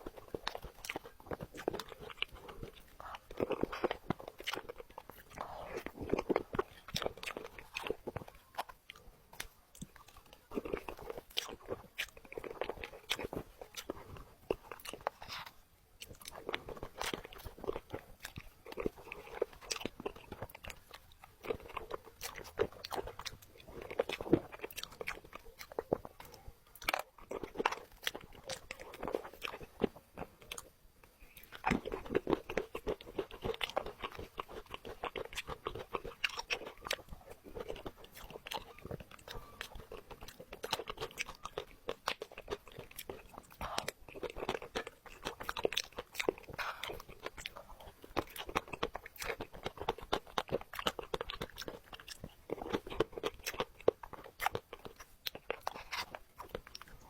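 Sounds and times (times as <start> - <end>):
crunching and chewing biscuits: 0.0 - 57.0.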